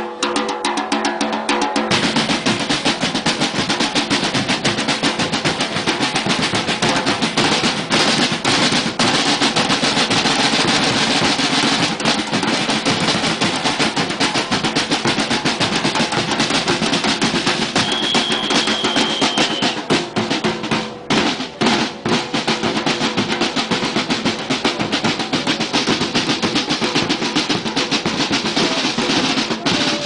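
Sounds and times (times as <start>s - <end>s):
bass drums and snare drums: 0.0s - 30.0s.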